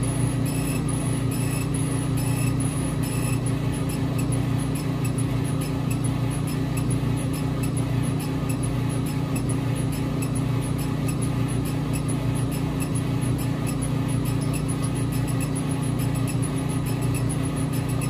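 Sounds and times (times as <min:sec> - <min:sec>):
laser engraver humming: 0:00.0 - 0:18.0.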